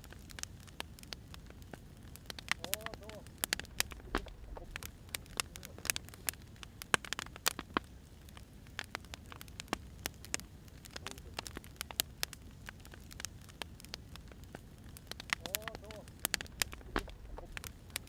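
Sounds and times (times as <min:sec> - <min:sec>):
firewood crackling and popping: 0:00.0 - 0:18.0.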